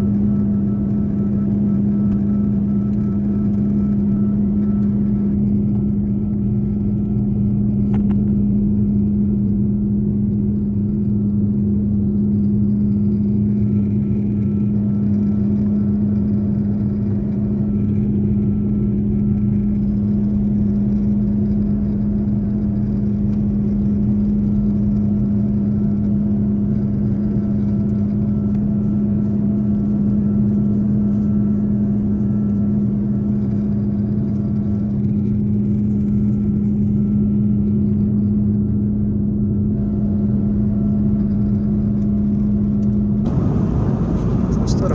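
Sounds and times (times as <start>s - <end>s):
airliner cabin engine drone: 0.0s - 44.9s.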